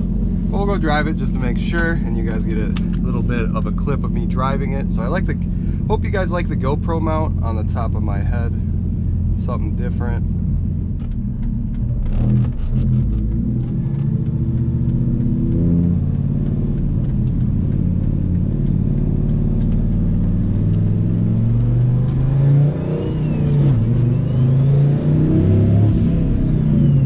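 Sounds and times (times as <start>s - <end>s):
engine accelerating: 0.0s - 27.0s.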